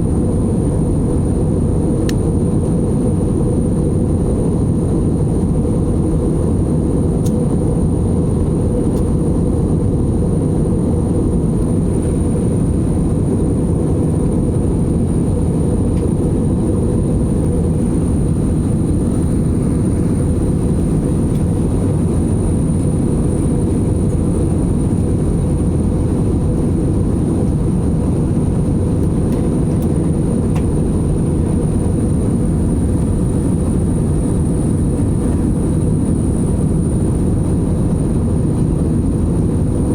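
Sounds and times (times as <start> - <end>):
airliner cabin engine noise: 0.0 - 39.9.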